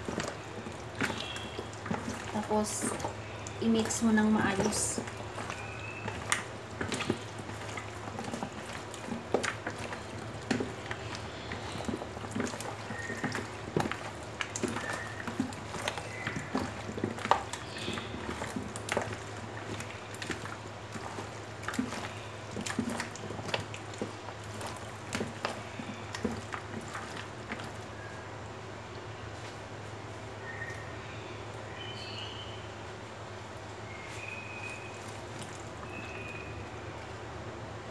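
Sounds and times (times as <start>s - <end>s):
hands squelching chicken: 0.0s - 28.3s, 33.9s - 36.6s.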